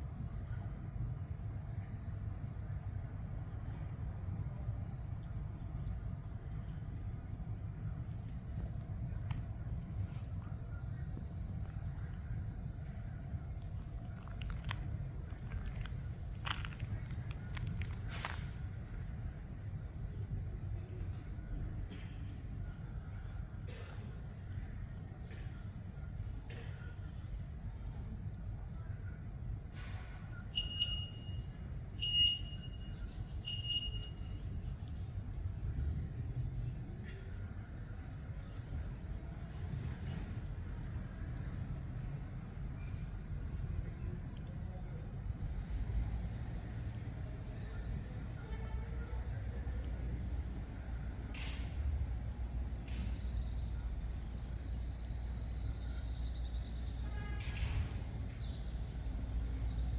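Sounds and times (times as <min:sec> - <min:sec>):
constant low rumble: 0:00.0 - 0:59.9.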